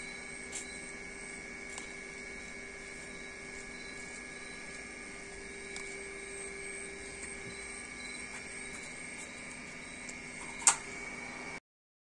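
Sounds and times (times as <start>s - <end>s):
low steady hum: 0.0s - 11.6s
night insects trilling: 0.0s - 11.6s.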